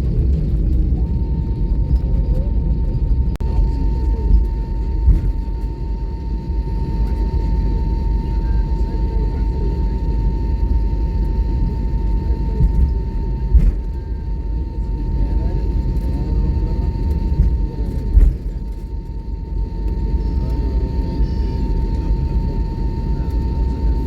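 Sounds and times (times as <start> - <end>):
constant high whine: 0.0 - 24.0
jet engines rumbling: 0.0 - 24.0.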